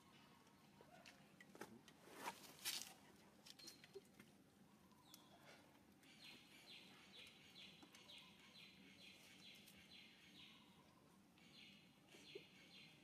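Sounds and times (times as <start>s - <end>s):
quiet outdoor background noise: 0.0s - 13.0s.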